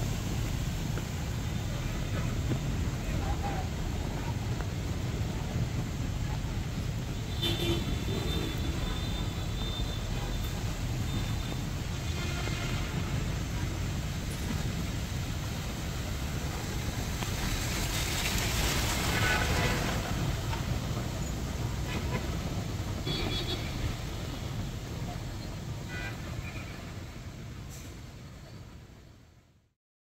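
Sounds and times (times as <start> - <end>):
vehicle passing on wet road: 0.0 - 28.2
rain hiss: 0.0 - 29.5
low traffic rumble: 0.0 - 29.7.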